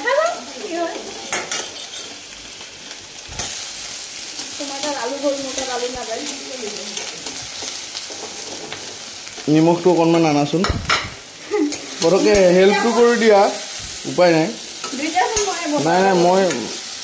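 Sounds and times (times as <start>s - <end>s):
noodles sizzling in a wok: 0.0s - 17.0s.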